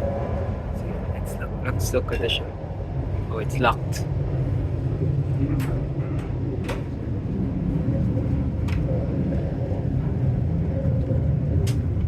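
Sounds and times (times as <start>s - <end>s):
train carriage rumbling: 0.0s - 12.0s.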